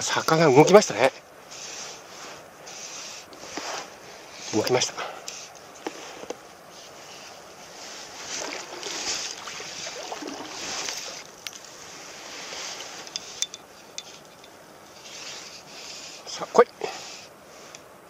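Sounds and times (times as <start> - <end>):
river current rushing: 0.2 - 18.0.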